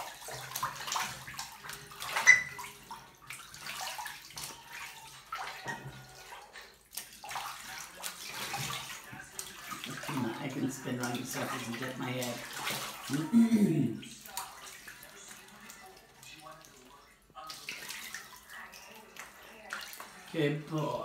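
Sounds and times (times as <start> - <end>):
duck splashing in water: 0.0 - 13.4, 14.1 - 20.7.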